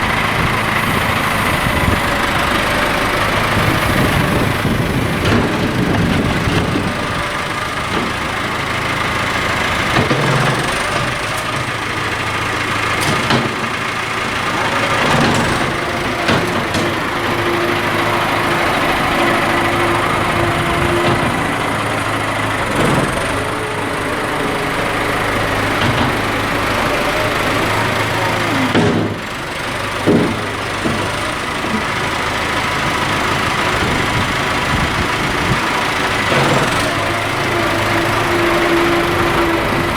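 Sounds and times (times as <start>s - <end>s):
loader knocks and clunks: 0.0s - 39.9s
tractor engine running: 0.0s - 39.9s.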